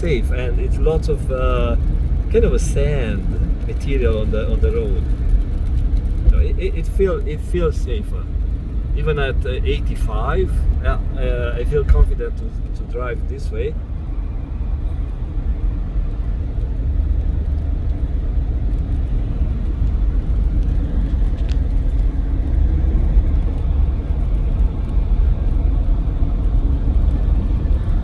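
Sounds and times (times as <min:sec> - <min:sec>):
road rumble and tyre noise: 0:00.0 - 0:28.0.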